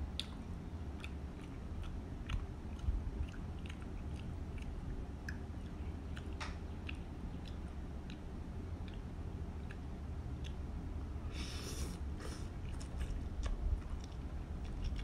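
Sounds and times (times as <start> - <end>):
chewing noodles with mouth clicks: 0.0 - 15.0
steady low hum: 0.0 - 15.0.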